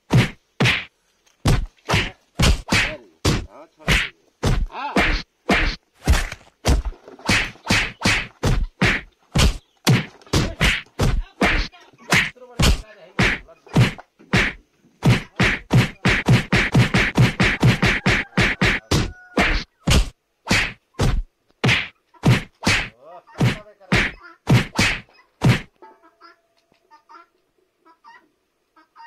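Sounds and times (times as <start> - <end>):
punch whack and thud hits: 0.1 - 25.7.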